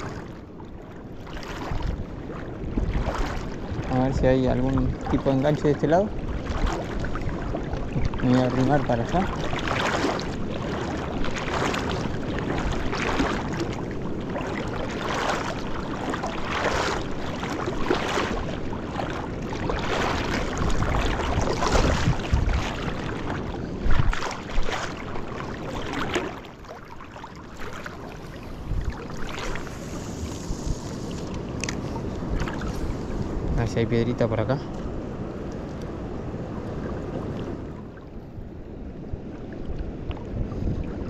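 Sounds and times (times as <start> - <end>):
water swishing and splashing: 0.0 - 41.0.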